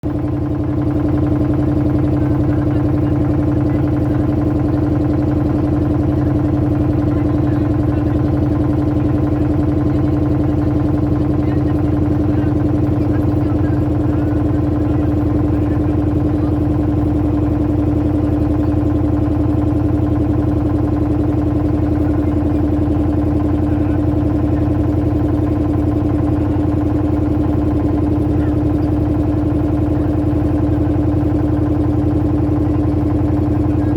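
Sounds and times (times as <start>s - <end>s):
motorboat engine droning: 0.0s - 33.9s.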